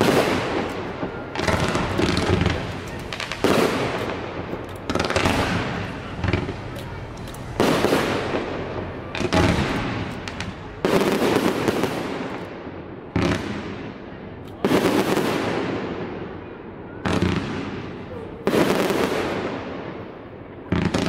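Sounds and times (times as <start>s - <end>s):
fireworks bursting with rumble: 0.0s - 21.0s.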